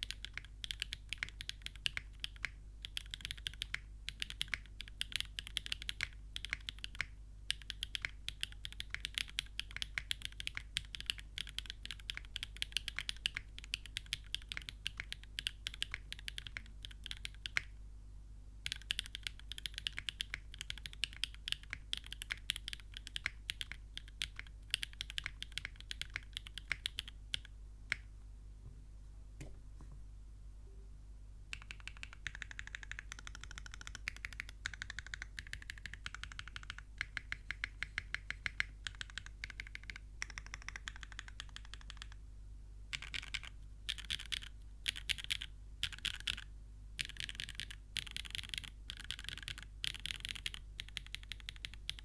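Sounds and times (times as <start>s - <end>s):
fast mechanical keyboard typing: 0.0s - 17.7s, 18.6s - 27.5s, 31.5s - 42.2s, 42.9s - 52.0s.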